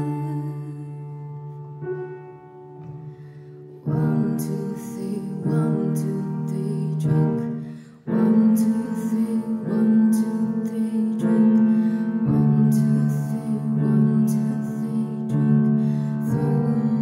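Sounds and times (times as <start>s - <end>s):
woman singing: 0.0s - 2.0s, 3.9s - 17.0s
piano chords: 0.0s - 17.0s.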